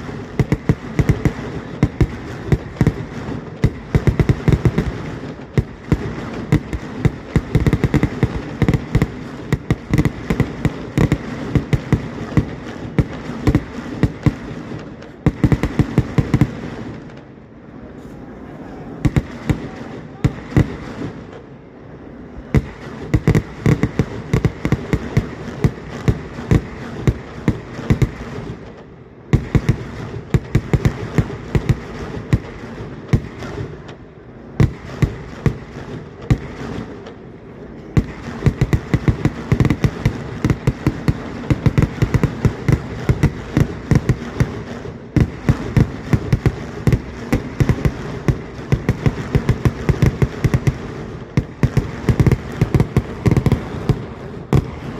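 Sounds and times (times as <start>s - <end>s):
firework explosions: 0.0s - 54.9s.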